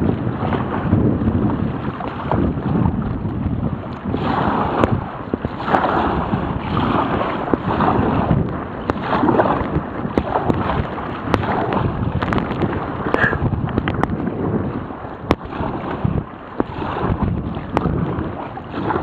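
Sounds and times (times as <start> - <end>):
water splashing around kayak: 0.0 - 19.0
wind buffeting microphone: 0.0 - 19.0.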